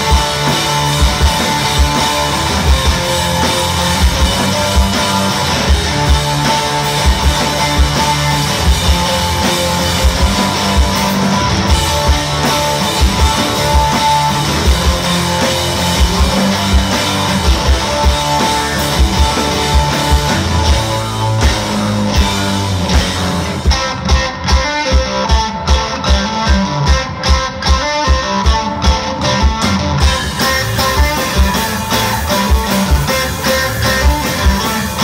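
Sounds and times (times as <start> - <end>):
drum kit beat: 0.0 - 35.0
electric guitars: 0.0 - 35.0.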